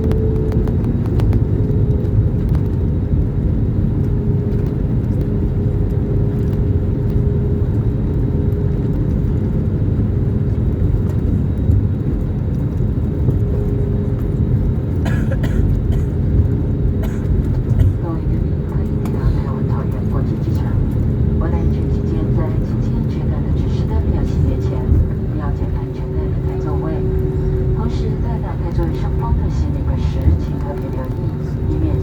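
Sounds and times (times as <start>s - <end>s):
airliner cabin rumble: 0.0s - 32.0s
faint engine hum: 0.0s - 32.0s.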